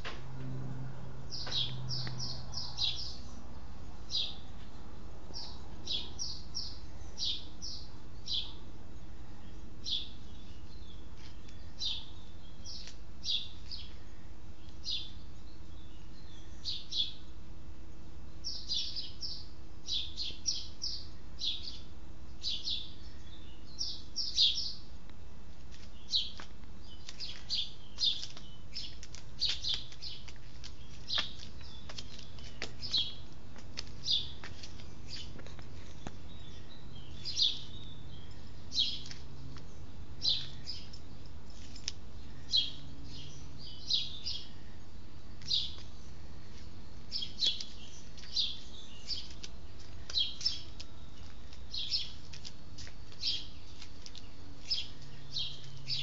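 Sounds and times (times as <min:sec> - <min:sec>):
small birds chirping: 0:01.3 - 0:56.0.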